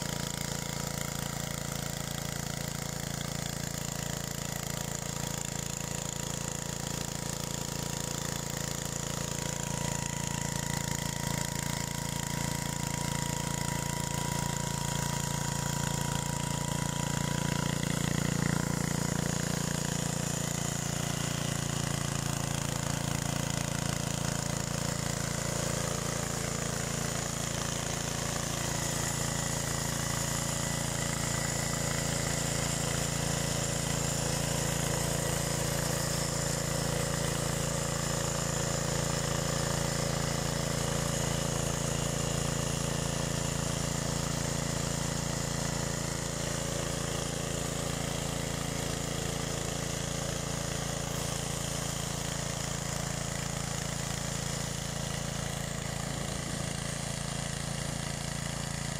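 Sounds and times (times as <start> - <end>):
garden tiller engine running: 0.0 - 58.9.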